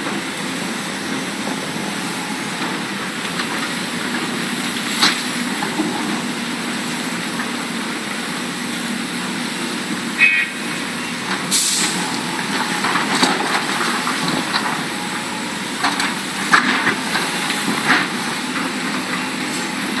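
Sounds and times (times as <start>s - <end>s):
hydraulic excavator running: 0.0s - 20.0s.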